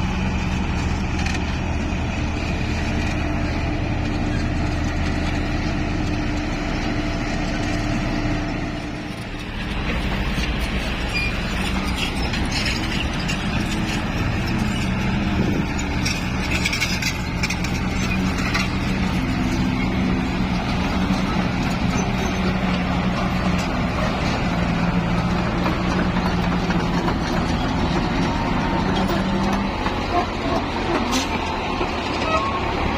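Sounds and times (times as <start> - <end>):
diesel truck engine running: 0.0 - 32.9.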